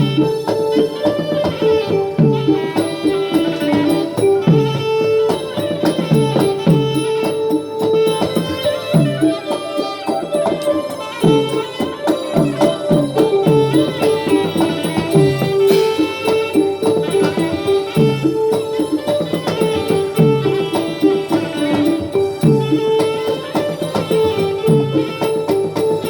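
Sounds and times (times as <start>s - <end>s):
steady percussion strikes: 0.0s - 26.0s
traditional melody: 0.0s - 26.0s.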